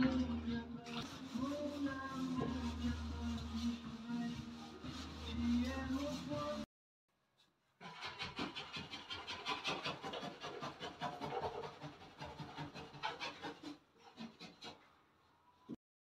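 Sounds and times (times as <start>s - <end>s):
scraper scraping wallpaper: 0.9s - 6.7s, 7.8s - 14.9s.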